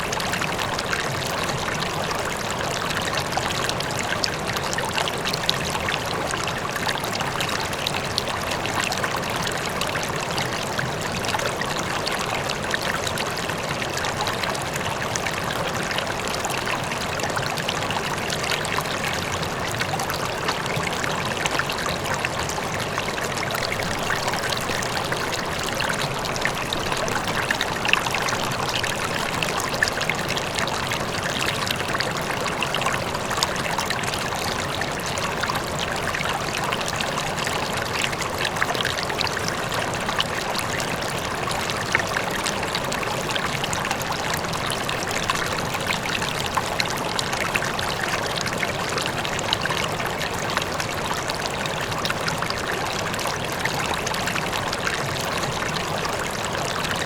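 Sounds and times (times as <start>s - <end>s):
faint waterfall: 0.0s - 57.0s
river water flowing over stones: 0.0s - 57.0s.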